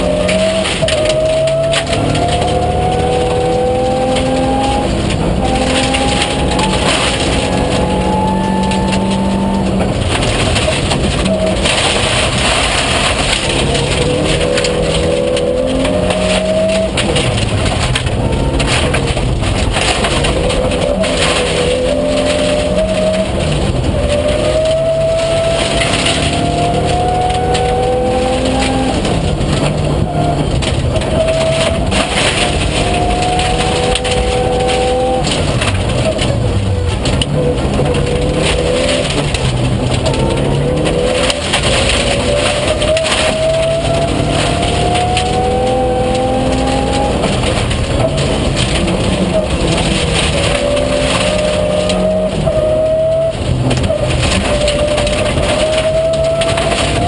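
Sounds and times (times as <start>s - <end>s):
car engine accelerating: 0.0s - 57.0s
tyres on gravel: 0.0s - 57.0s.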